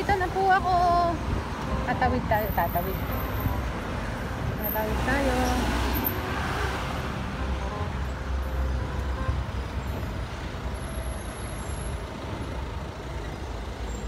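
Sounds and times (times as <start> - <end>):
steady traffic noise: 0.0 - 14.0.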